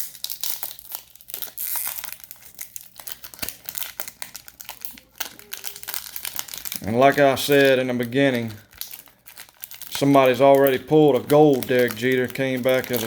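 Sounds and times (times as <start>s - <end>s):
card pack wrapper crinkling and tearing: 0.0s - 13.0s.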